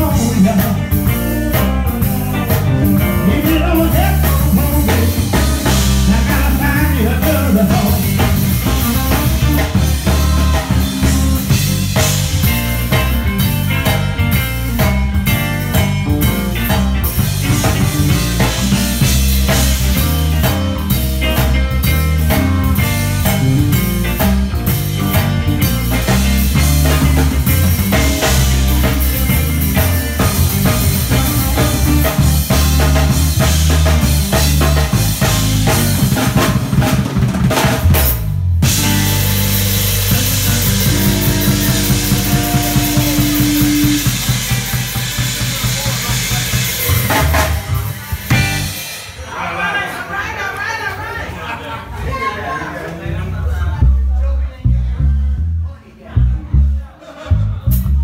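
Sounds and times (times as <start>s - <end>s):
steady bass line: 0.0s - 49.0s, 53.1s - 58.0s
electric guitar: 0.0s - 49.2s
drum kit with cymbals: 0.0s - 49.4s, 57.7s - 58.0s.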